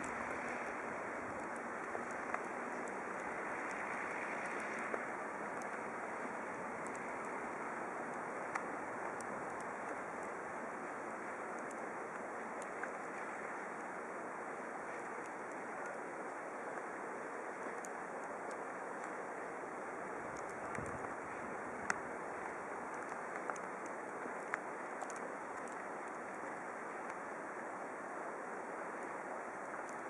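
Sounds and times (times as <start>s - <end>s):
faint ticks: 0.0s - 30.0s.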